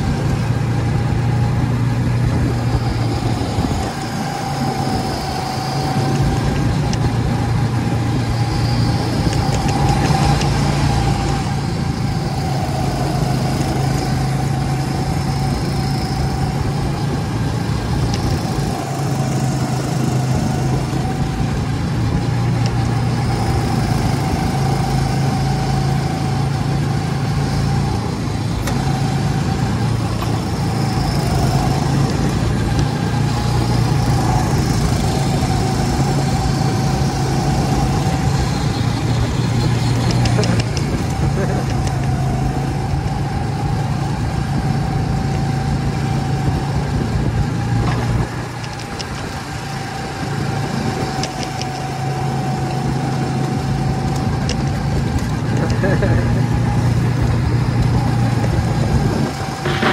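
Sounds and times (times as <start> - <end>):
go-kart engine whining drone: 0.0 - 59.9.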